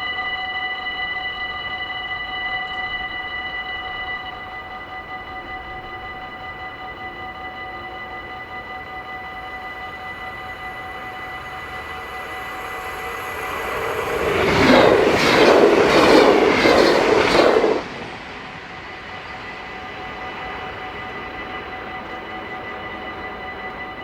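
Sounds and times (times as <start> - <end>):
level crossing warning bells: 0.0 - 24.0
train passing with wheel clacks: 0.0 - 24.0.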